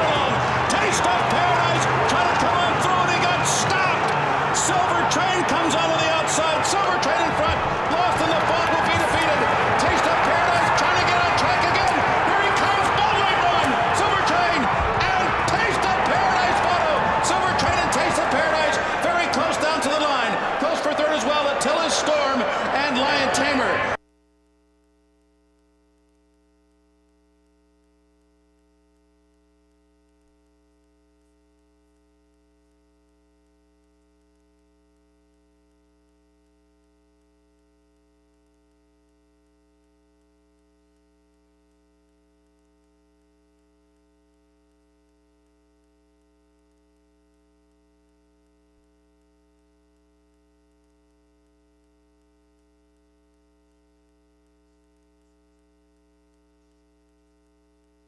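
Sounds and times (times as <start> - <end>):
faint electrical mains hum: 0.0 - 58.0.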